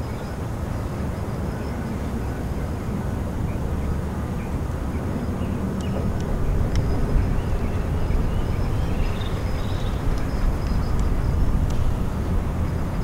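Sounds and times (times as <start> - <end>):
distant diesel train rumble: 0.0 - 13.0.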